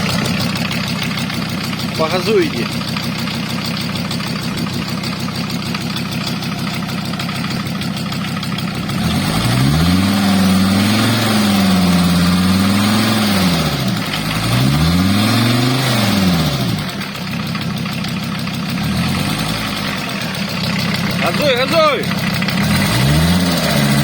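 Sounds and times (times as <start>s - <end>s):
diesel engine idling and revving: 0.0s - 24.0s.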